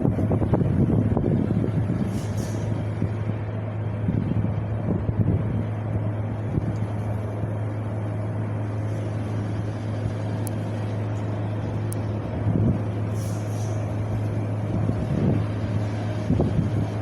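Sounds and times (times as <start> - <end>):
wind blowing: 0.0 - 17.0.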